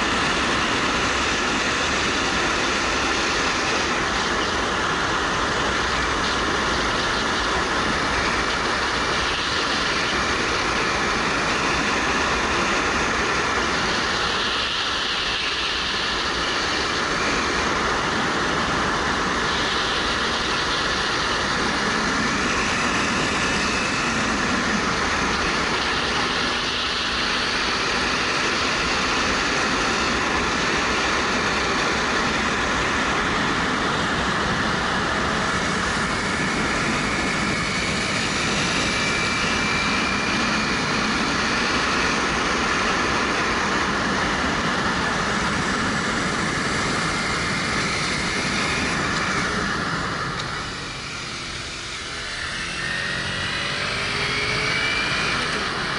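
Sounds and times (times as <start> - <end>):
wind rushing over camera: 0.0 - 55.9.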